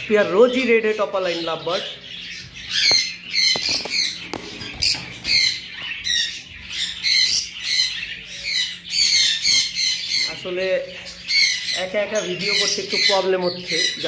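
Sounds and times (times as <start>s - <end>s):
lovebirds squawking: 0.0s - 14.0s.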